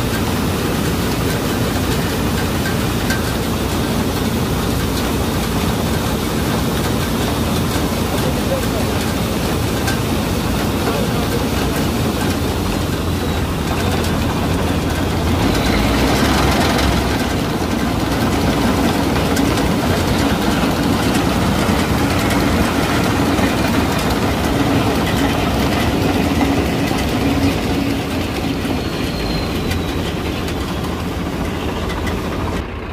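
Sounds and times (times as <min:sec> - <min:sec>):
combine harvester engine and machinery: 0:00.0 - 0:32.9.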